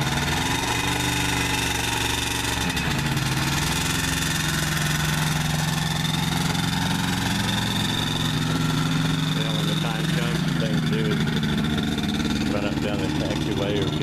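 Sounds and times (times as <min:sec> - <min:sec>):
ultralight engine and propeller: 0:00.0 - 0:14.0.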